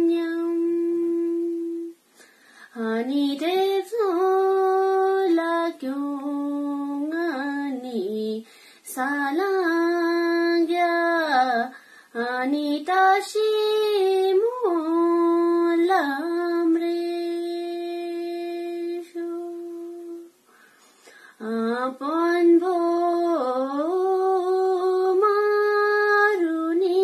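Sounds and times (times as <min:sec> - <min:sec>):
woman singing unaccompanied: 0:00.0 - 0:20.5, 0:21.3 - 0:27.0.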